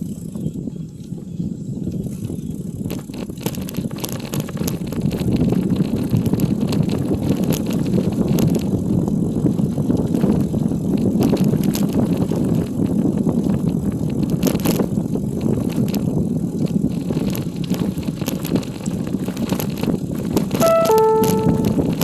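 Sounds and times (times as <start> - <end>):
bicycle rattles and clicks: 0.0 - 20.6
bicycle tyres rumbling on dirt: 0.0 - 20.6.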